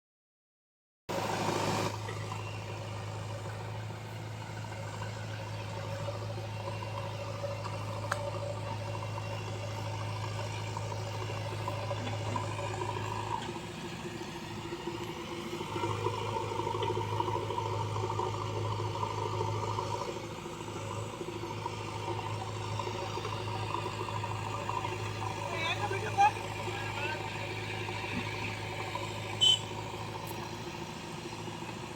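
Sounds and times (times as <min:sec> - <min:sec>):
tractor diesel engine running: 0:01.1 - 0:31.9.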